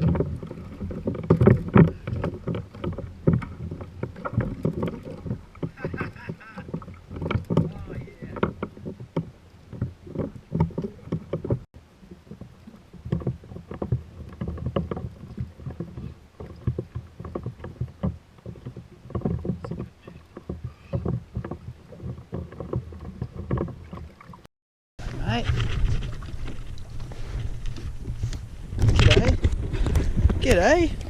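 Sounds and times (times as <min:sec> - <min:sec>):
water slapping against kayak hull: 0:00.0 - 0:31.0.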